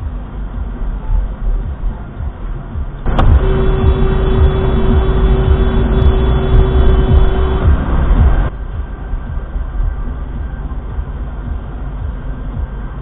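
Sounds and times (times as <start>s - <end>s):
car road noise: 0.0s - 13.0s
sustained steady tone: 0.1s - 13.0s.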